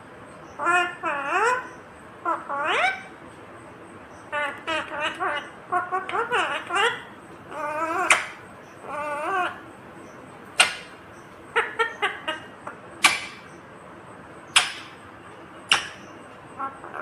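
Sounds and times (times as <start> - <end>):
parakeet calls: 0.4 - 3.2, 4.0 - 17.0.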